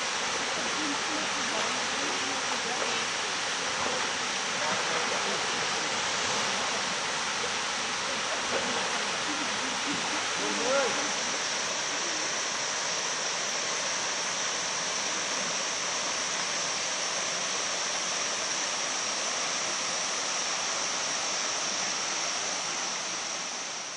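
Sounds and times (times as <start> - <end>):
steady high hiss: 0.0 - 23.9
water rushing into pool: 0.0 - 23.9.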